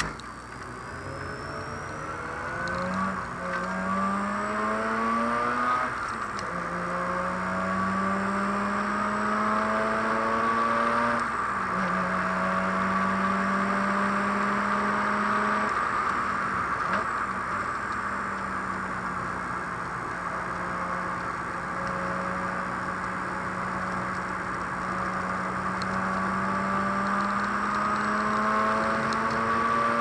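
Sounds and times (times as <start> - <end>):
rotary engine revving: 0.0 - 30.0.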